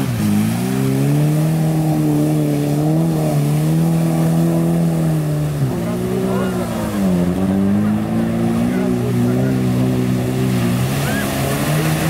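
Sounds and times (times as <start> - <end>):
engine revving hard: 0.0 - 12.0
spray of mud and water: 0.0 - 12.0.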